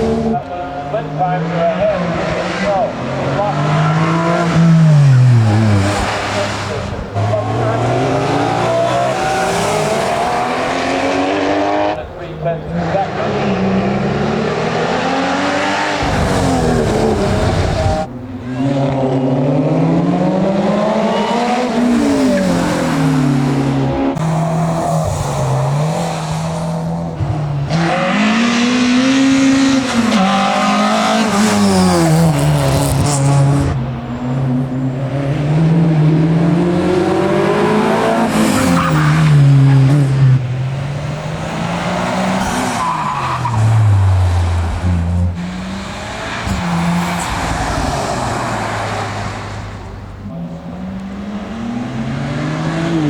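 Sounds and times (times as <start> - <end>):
car engine revving hard: 0.0 - 53.0.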